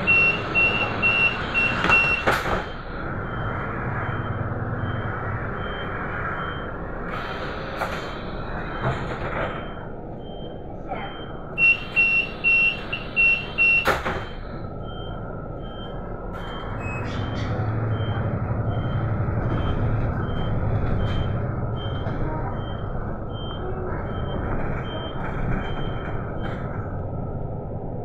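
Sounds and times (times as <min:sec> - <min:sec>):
loud warning beep: 0:00.0 - 0:26.6
bus engine: 0:00.0 - 0:28.0.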